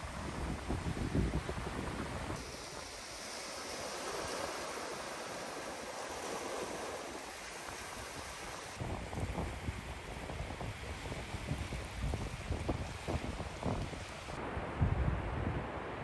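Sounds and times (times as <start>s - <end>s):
sea waves washing: 0.0s - 16.0s
wind rumbling on microphone: 0.0s - 16.0s.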